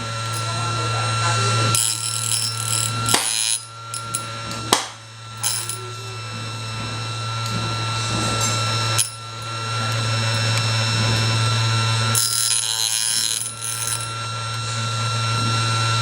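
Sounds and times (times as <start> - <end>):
sharpening machine motor whine: 0.0 - 16.0.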